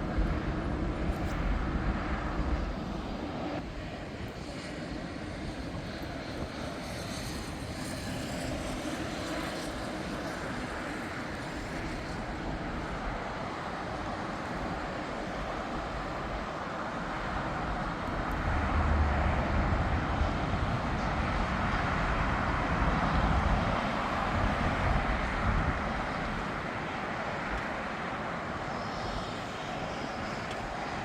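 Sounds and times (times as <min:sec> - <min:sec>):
jet airliner engines passing: 0:00.0 - 0:31.0.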